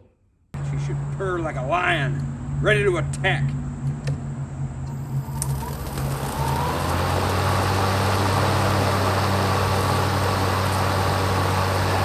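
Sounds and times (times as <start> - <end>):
lawn mower blade whine and hum: 0.6 - 12.0.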